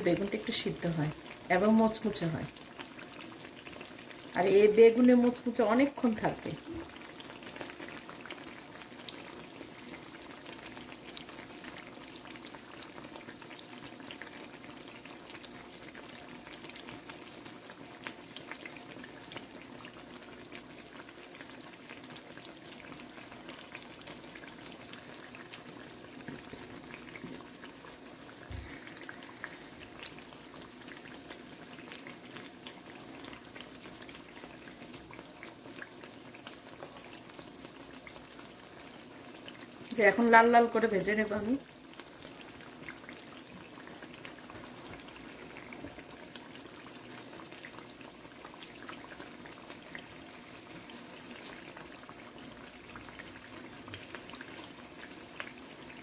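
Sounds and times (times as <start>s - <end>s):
food frying in oil: 0.0s - 56.0s.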